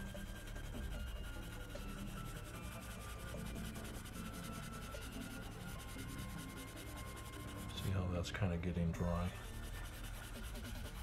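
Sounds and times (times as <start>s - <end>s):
marker scrubbing on paper: 0.0s - 8.1s, 9.2s - 11.0s.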